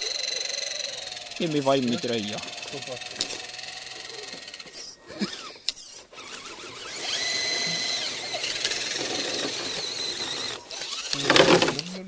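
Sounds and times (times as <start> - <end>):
electric motor and gears whining: 0.0 - 12.0.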